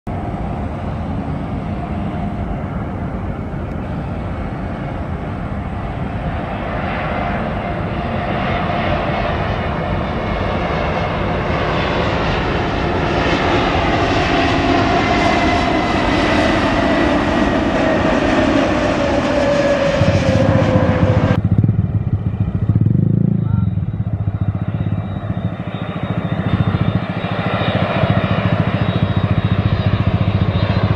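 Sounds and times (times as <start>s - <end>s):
jet engines rumble and whine: 0.1s - 30.9s.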